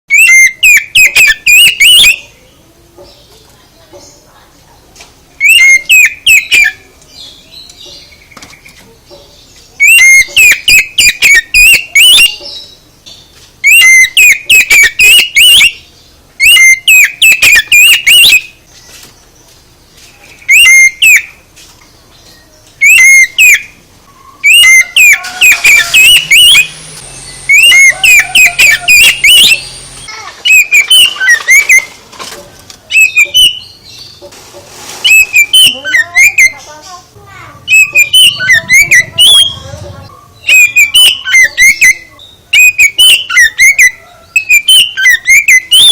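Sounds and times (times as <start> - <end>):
songbird warbling: 0.1 - 34.4, 35.0 - 45.9.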